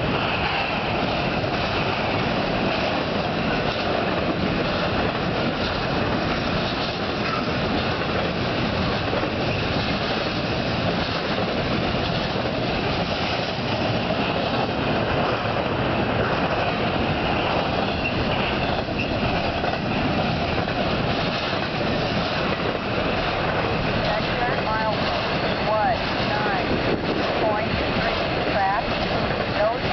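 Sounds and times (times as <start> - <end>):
freight train wheels on rails: 0.0 - 29.9.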